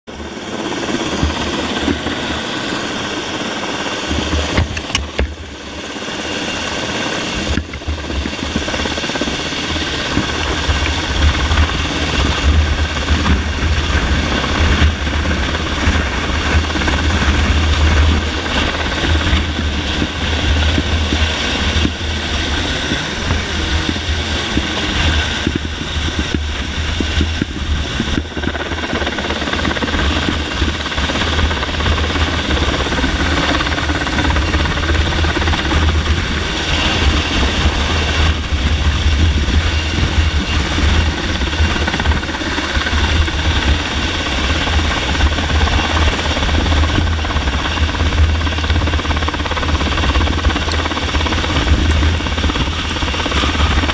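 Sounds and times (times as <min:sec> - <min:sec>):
helicopter rotor and turbine noise: 0:00.0 - 0:53.9.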